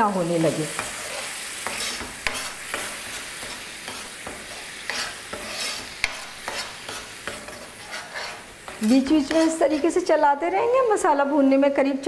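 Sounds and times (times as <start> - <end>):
masala sizzling in a pan: 0.0 - 12.0
metal spoon scraping a pan: 0.6 - 10.4.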